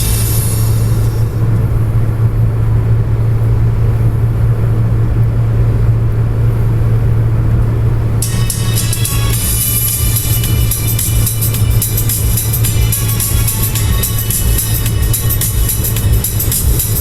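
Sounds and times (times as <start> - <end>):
car driving on highway: 0.0 - 17.0.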